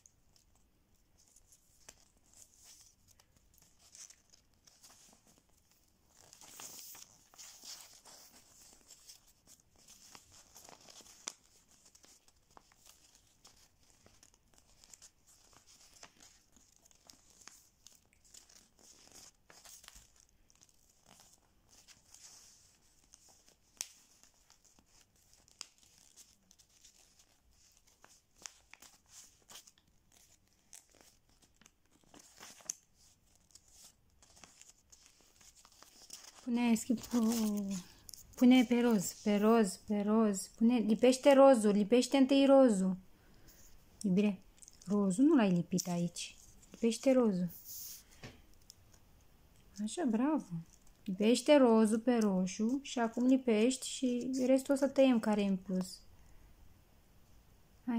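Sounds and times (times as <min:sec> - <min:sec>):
paper rustling and crinkling: 0:00.0 - 0:39.9, 0:43.3 - 0:49.0, 0:49.6 - 0:55.6.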